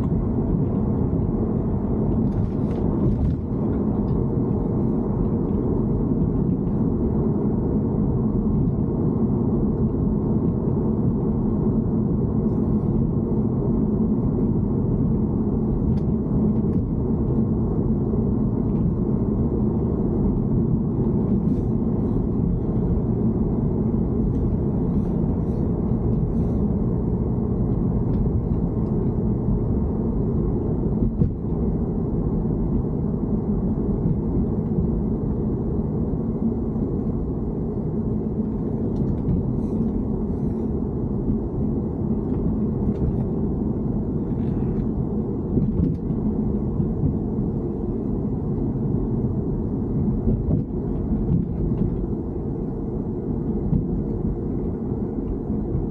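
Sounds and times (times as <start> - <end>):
car low rumble: 0.0 - 55.9.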